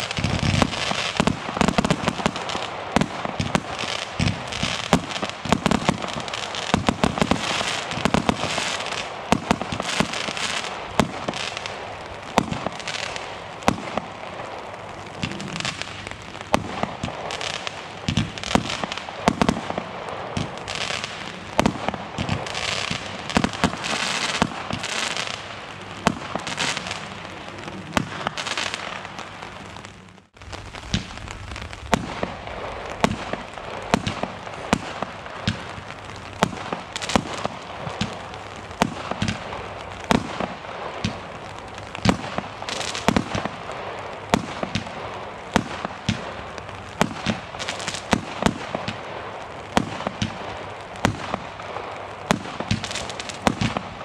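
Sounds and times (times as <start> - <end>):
fireworks banging and popping: 0.0 - 54.0
fireworks crackling: 0.0 - 54.0.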